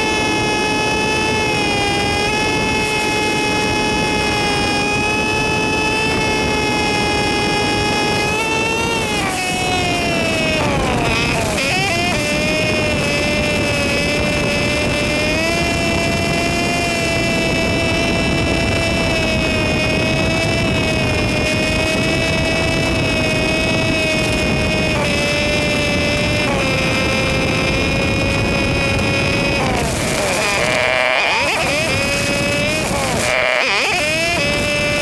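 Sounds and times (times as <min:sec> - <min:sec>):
motorcycle engine high-pitched drone: 0:00.0 - 0:35.0
rushing wind noise: 0:00.0 - 0:35.0.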